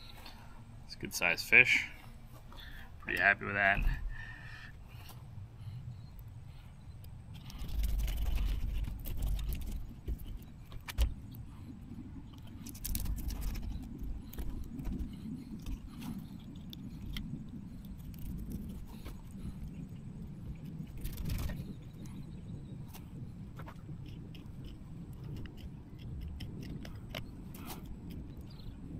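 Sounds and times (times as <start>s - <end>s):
low rumble: 0.0s - 28.9s.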